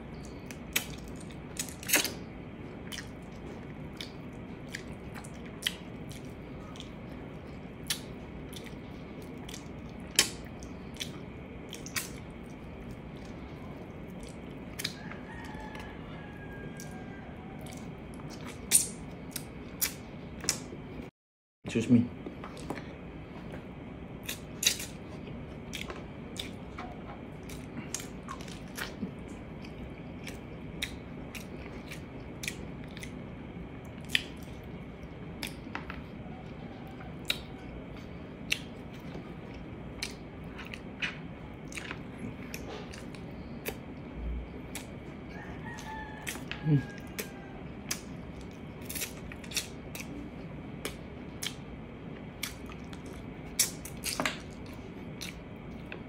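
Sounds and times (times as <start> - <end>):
wet chewing clicks and smacks: 0.1 - 15.9, 17.6 - 20.8, 24.2 - 45.1, 45.8 - 56.0.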